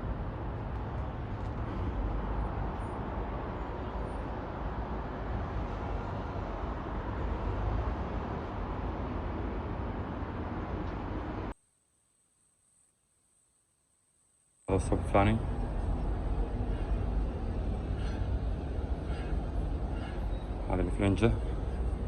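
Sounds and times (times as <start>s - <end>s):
vehicle rumble and road noise: 0.0s - 11.6s, 14.7s - 22.0s.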